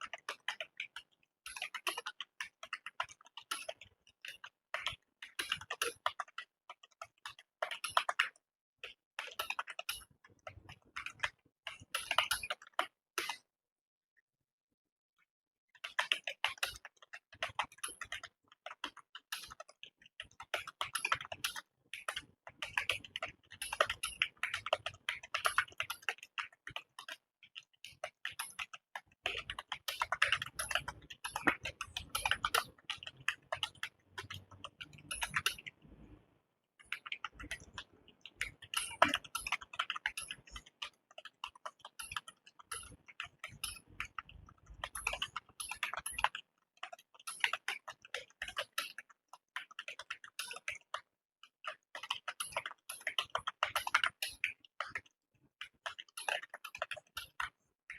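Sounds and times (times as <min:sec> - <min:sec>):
fast typing on computer keyboard: 0:00.0 - 0:12.9, 0:15.8 - 0:36.2, 0:36.8 - 0:57.6.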